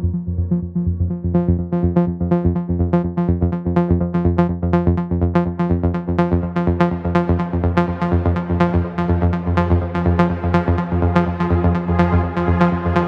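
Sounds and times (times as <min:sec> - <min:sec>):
held low bass note: 0:00.0 - 0:13.0.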